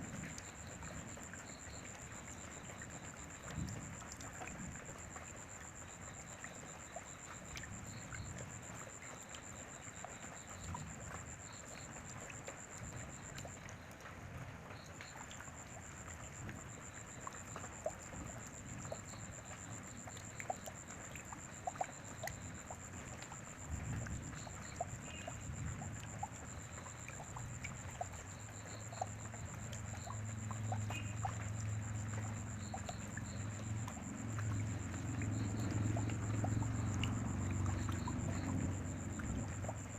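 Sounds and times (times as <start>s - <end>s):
drips ticking on surfaces: 0.0s - 39.9s.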